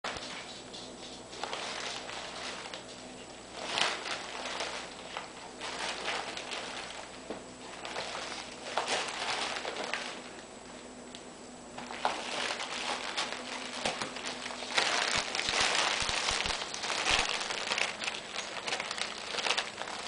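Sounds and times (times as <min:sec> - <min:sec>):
plastic packets crinkling: 0:01.2 - 0:10.5, 0:11.7 - 0:20.0.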